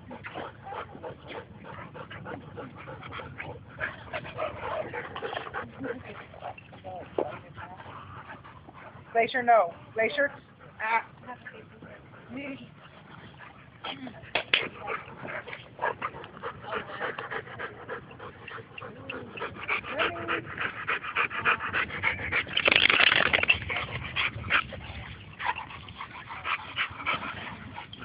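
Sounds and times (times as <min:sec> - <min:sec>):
dogs panting: 0:00.0 - 0:28.0.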